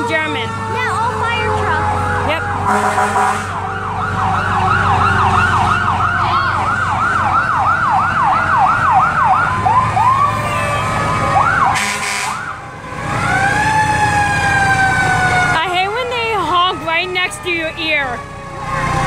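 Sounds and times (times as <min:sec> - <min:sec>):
fire truck siren: 0:00.0 - 0:19.0
truck engines running: 0:00.0 - 0:19.0.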